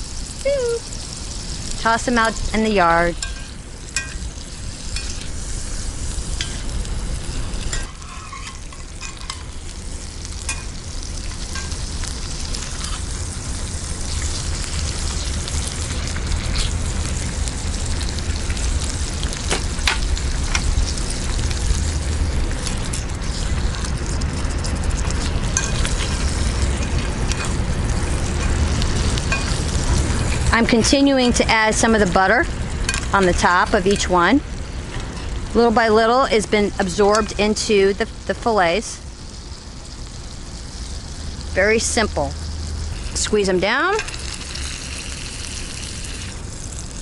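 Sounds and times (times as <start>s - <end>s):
fish sizzling in a skillet: 0.0s - 47.0s.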